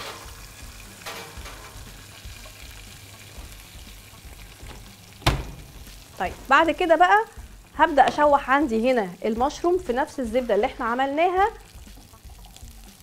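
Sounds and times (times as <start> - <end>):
butter sizzling in frying pan: 0.0 - 13.0.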